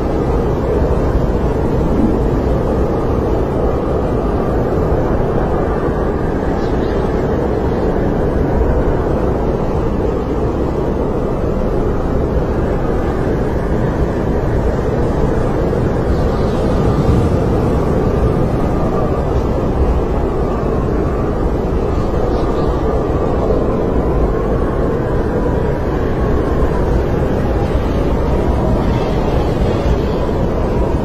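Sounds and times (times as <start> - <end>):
snowstorm wind blowing: 0.0 - 31.0.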